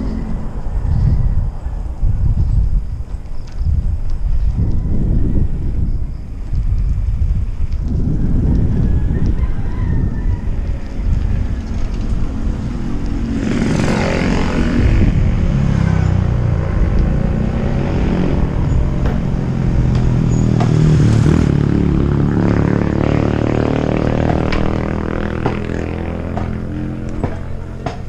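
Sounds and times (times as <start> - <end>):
rush of noise: 0.0 - 28.0.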